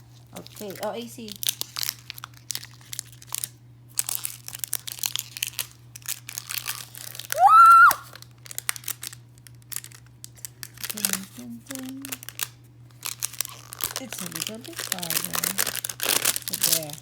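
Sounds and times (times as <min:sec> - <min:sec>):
plastic wrapping crinkling and tearing: 0:00.1 - 0:17.0.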